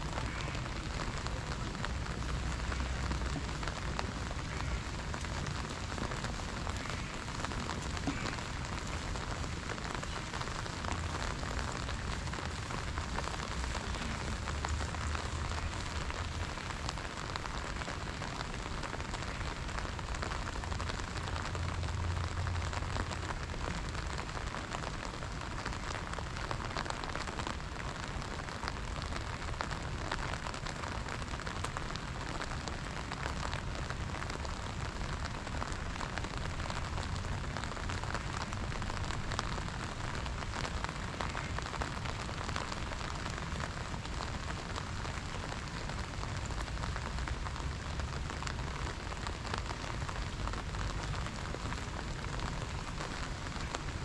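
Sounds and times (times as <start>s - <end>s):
rain on stone paving: 0.0s - 54.0s.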